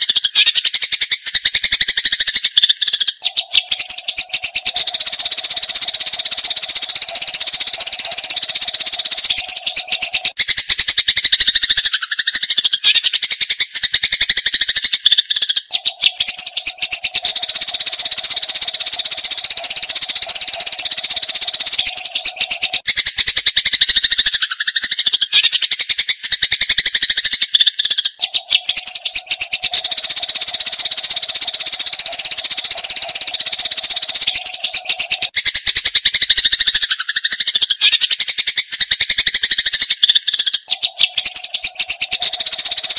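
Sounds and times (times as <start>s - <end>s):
sparrows chirping: 0.0s - 42.9s.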